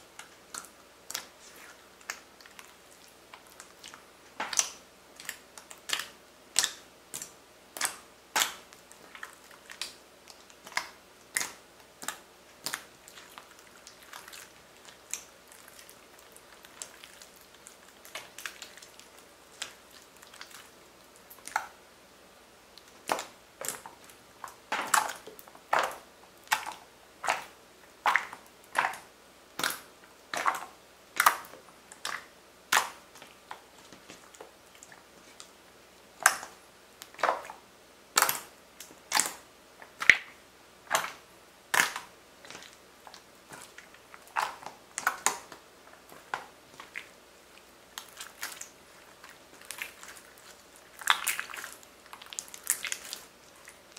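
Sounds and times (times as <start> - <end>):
slime squelching and popping: 0.1 - 21.8, 22.8 - 35.6, 36.2 - 53.9.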